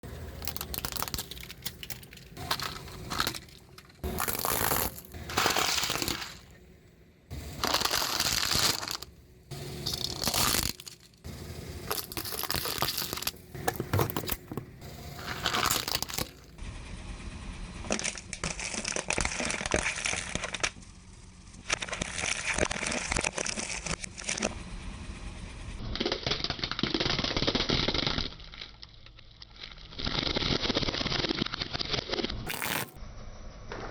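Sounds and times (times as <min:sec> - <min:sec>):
tyre crushing glass marbles: 0:00.1 - 0:06.7, 0:07.3 - 0:16.6, 0:17.8 - 0:20.9, 0:21.6 - 0:24.5, 0:25.8 - 0:33.0.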